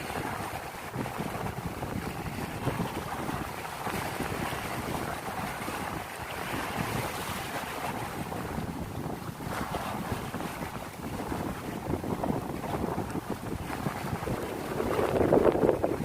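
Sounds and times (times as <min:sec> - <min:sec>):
choppy sea washing: 0:00.0 - 0:16.0
wind buffeting microphone: 0:00.0 - 0:16.0.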